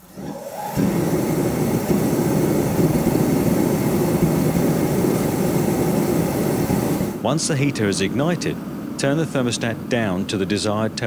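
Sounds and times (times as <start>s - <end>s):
space heater fan spinning up: 0.0s - 10.8s
heater rushing drone: 0.0s - 11.0s.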